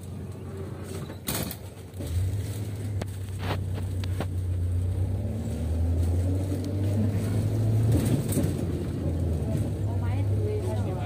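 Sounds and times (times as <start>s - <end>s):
knocks and rattles from road bumps: 0.0s - 11.0s
vehicle engine drone: 0.0s - 11.0s.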